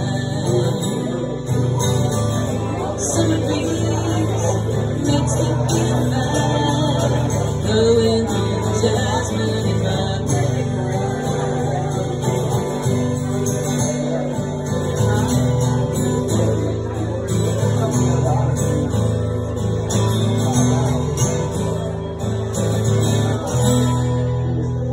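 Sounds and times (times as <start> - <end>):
acoustic guitar strummed and picked: 0.0 - 24.9.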